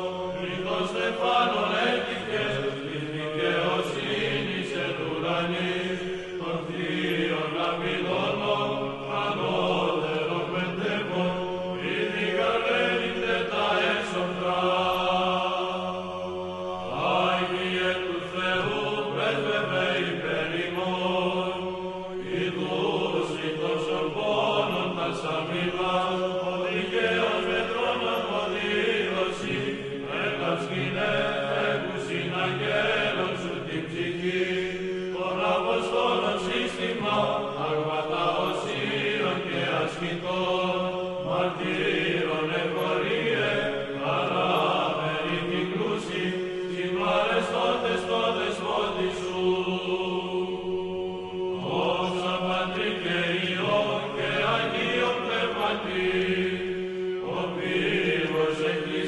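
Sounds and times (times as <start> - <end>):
voices singing slow chant: 0.0 - 59.0.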